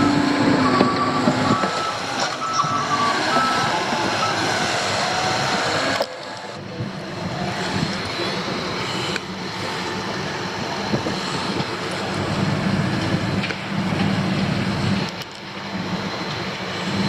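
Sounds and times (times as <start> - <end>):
construction machinery diesel rumble: 0.0 - 17.0.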